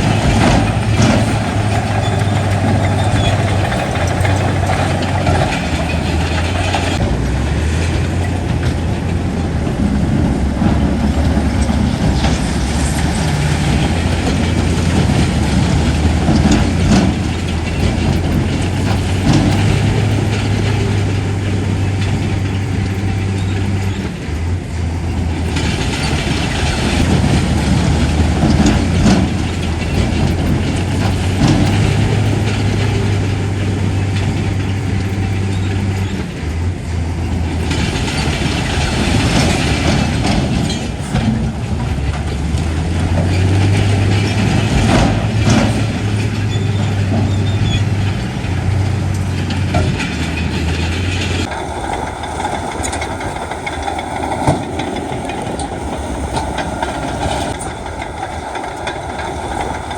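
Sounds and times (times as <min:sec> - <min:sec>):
heavy diesel engine humming: 0:00.0 - 0:59.9
metal clanks and knocks: 0:00.0 - 0:59.9.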